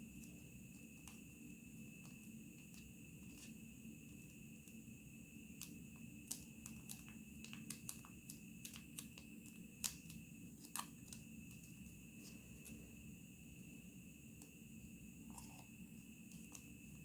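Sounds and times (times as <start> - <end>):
faint high-pitched hum: 0.0 - 17.0.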